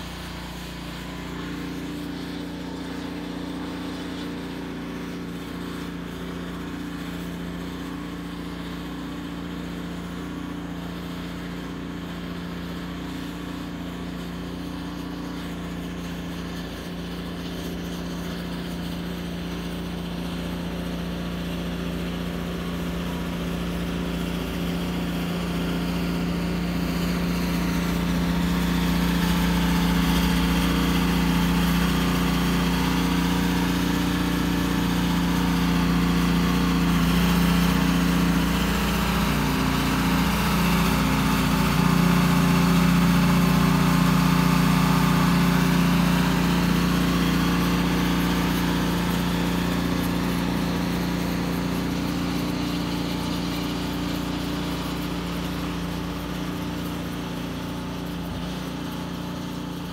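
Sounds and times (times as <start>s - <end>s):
snow blower engine drone: 0.0s - 59.9s.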